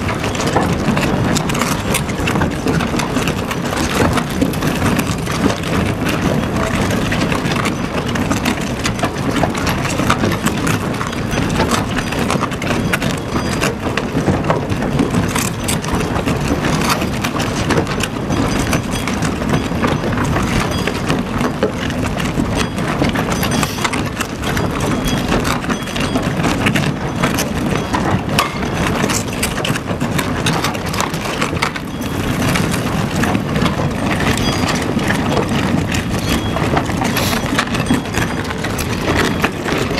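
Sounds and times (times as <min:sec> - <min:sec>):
tunnel boring machine rumble: 0:00.0 - 0:39.9.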